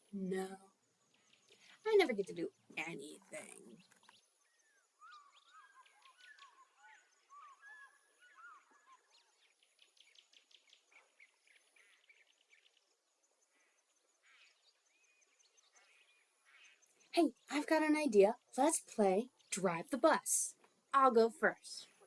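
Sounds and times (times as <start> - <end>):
faint birds chirping and twittering: 0.0 - 22.0.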